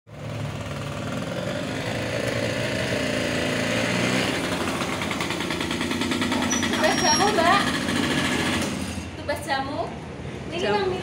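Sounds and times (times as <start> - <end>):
scooter engine buzzing: 0.1 - 9.2.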